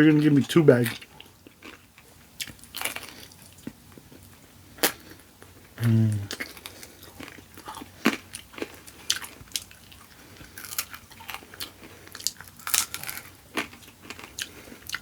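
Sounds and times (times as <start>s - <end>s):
person chewing food: 0.7s - 15.0s.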